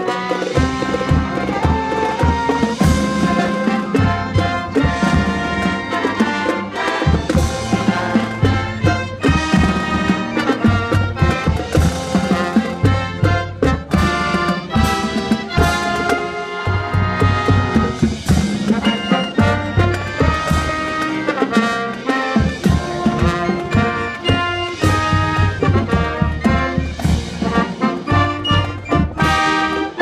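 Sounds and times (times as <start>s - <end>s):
marching band brass horns: 0.0s - 30.0s
steady drum beats: 0.0s - 30.0s.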